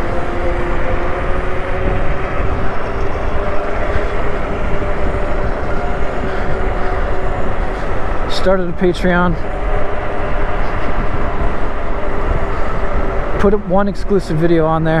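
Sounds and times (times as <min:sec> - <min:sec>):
steady electric motor whine: 0:00.0 - 0:15.0
wind rushing over microphone: 0:00.0 - 0:15.0.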